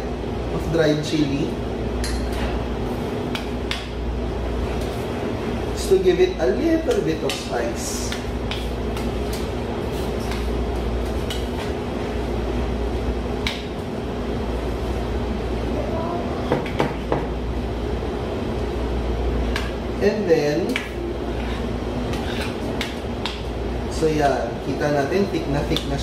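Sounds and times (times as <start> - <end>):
mechanical hum with low rumble: 0.0 - 26.0.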